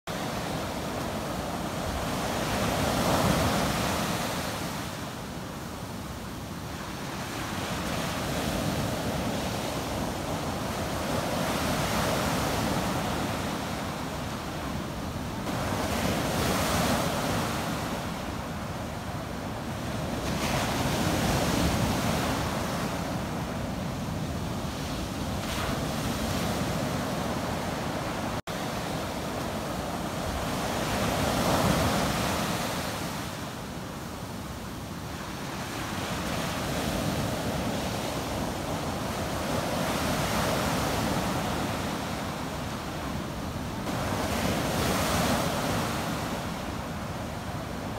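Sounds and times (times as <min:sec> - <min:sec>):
ocean surf breaking on beach: 0:00.1 - 0:47.9.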